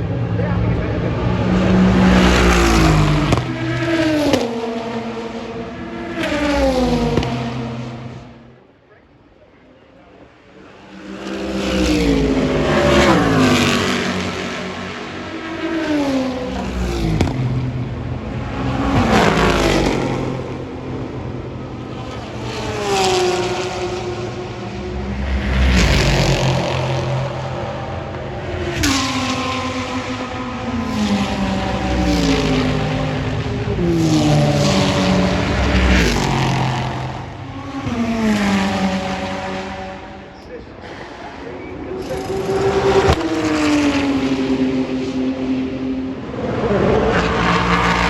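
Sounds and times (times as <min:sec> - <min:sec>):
race cars passing at speed: 0:00.0 - 0:48.0.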